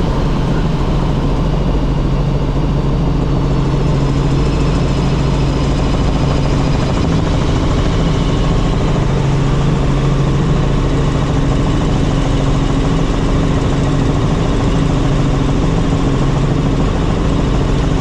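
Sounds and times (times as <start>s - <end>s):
helicopter engine and rotors droning: 0.0s - 18.0s.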